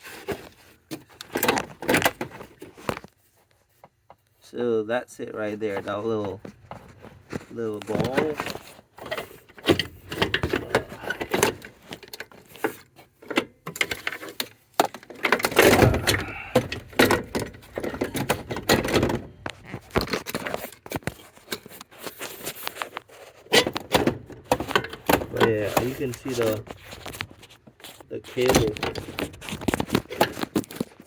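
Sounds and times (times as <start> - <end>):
hands handling parts: 0.0 - 4.4, 5.3 - 31.0.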